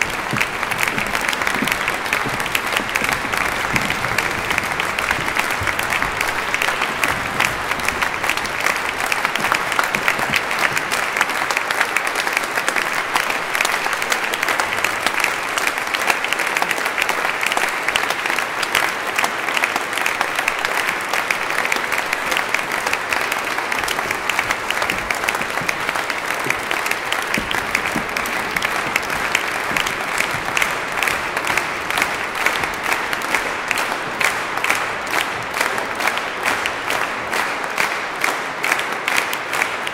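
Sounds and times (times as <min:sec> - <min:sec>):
audience applauding: 0:00.0 - 0:39.9.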